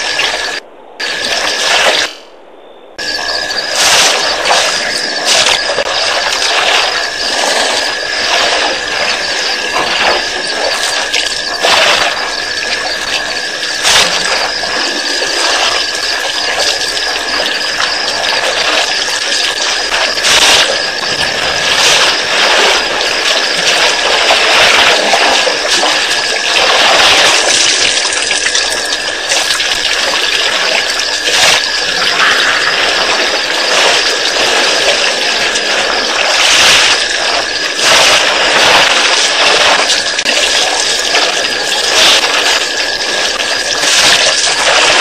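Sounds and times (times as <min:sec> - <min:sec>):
water splashing and gushing: 0:00.0 - 0:02.2, 0:03.0 - 0:45.0
thin high whine: 0:00.0 - 0:45.0.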